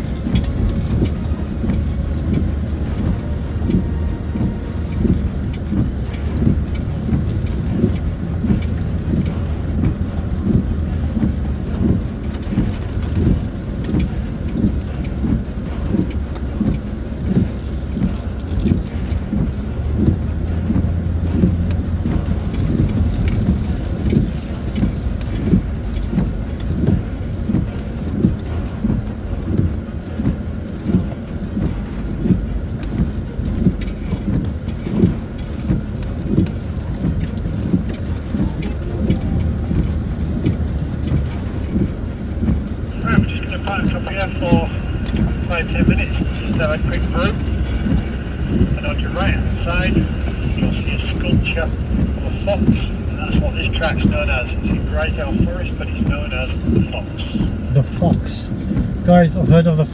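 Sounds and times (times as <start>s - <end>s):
suspension knocks and jolts: 0.0s - 54.8s
engine and tyres droning: 0.0s - 59.9s
rain: 0.0s - 59.9s.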